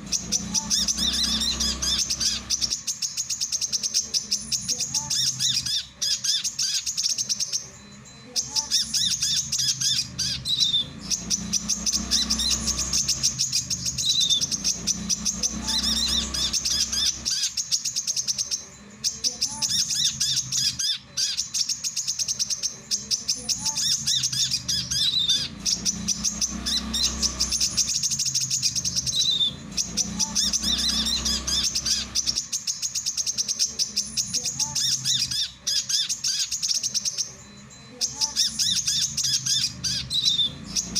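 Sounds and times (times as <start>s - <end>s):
bird singing high chipping notes: 0.0s - 40.9s.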